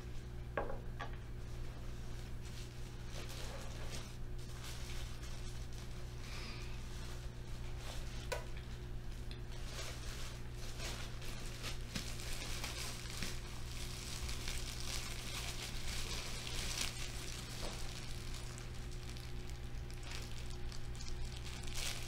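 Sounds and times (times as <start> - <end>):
low electrical hum: 0.0 - 22.0
crinkling and rustling handling noise: 1.4 - 6.2, 6.9 - 22.0.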